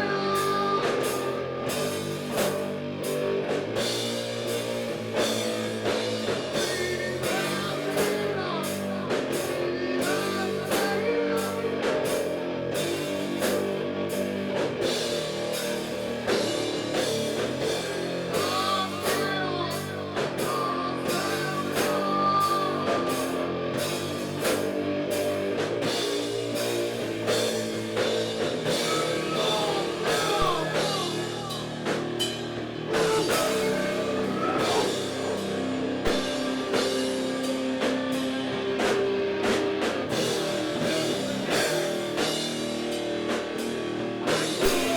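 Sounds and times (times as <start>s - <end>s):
rock band playing live: 0.0s - 44.9s.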